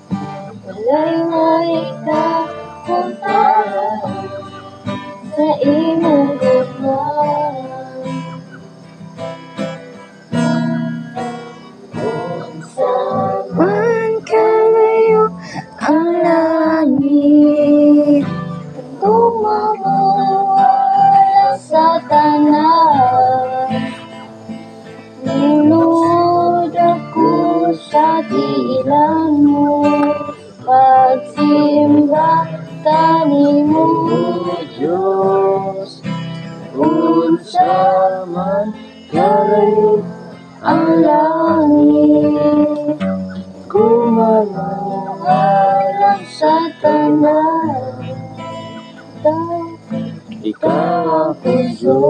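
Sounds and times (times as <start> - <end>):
guitar accompaniment: 0.0 - 52.0
woman singing: 0.5 - 8.6, 12.0 - 24.0, 25.2 - 52.0.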